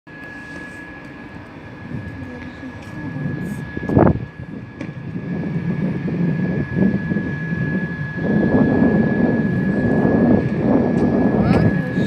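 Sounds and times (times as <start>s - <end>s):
high whine: 0.1s - 12.0s
locomotive engine rumble: 0.1s - 12.0s.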